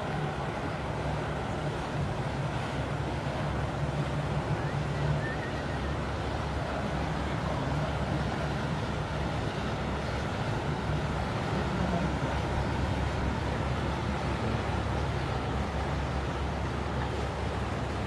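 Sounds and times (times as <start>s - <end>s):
boat engine hum: 0.0s - 18.0s
rushing water: 0.0s - 18.0s.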